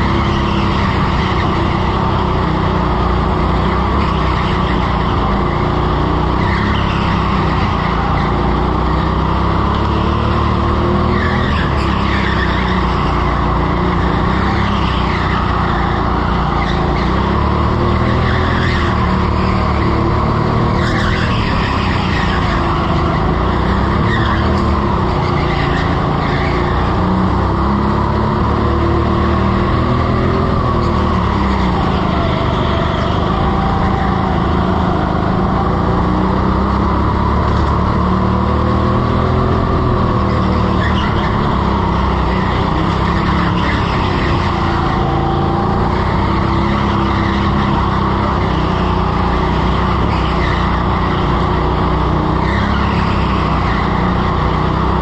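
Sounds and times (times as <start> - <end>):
go-kart motor: 0.0 - 55.0
tyre squeals: 0.0 - 55.0.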